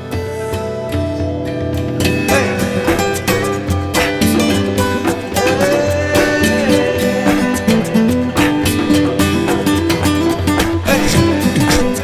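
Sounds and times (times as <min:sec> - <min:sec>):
guitar music: 0:00.0 - 0:12.0.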